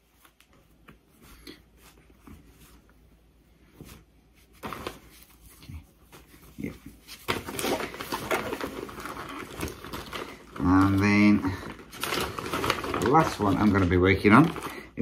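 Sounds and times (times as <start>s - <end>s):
fabric and paper rustling: 0.0s - 15.0s.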